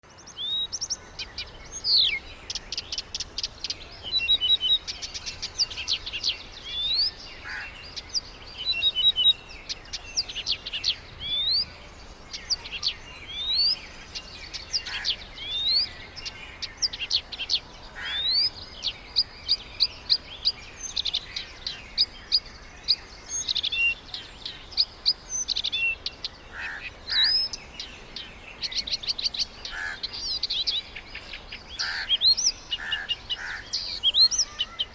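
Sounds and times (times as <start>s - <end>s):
birds calling: 0.0s - 34.9s.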